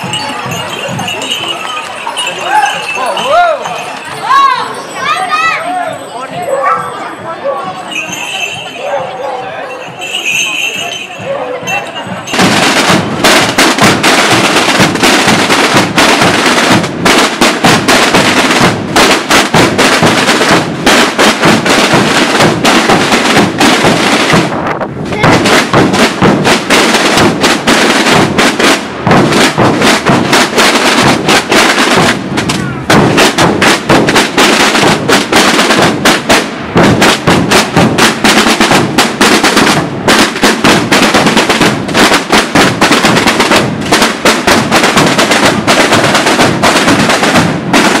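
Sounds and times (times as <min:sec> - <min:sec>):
marching drum group: 0:00.0 - 0:05.6, 0:06.8 - 0:48.0.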